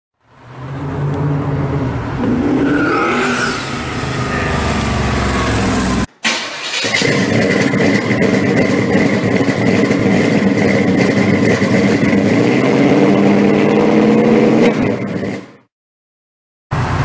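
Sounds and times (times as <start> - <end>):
car engine driving by: 0.2 - 15.7.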